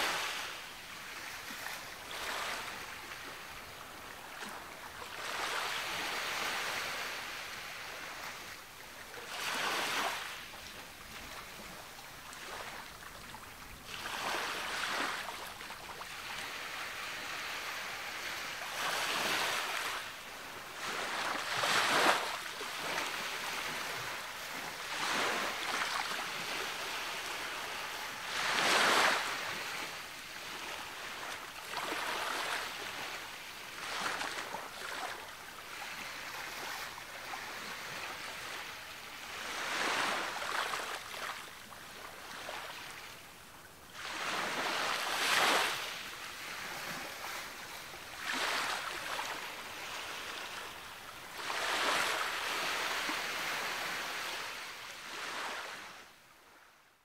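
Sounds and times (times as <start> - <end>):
ocean waves breaking on shore: 0.0 - 56.8.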